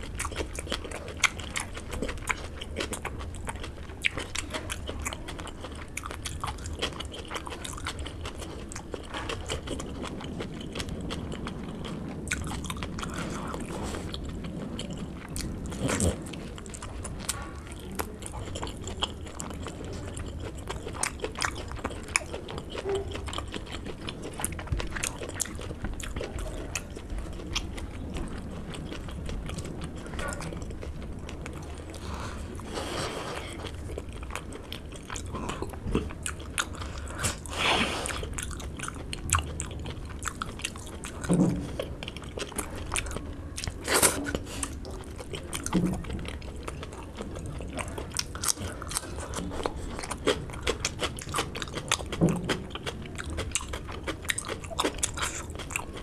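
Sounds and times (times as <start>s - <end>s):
biting and chewing food: 0.0s - 56.0s.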